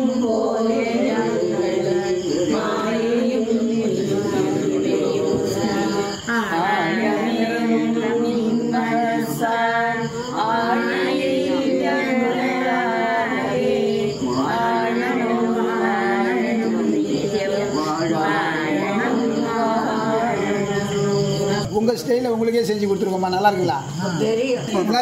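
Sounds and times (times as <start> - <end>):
group singing a prayer song: 0.0 - 22.0.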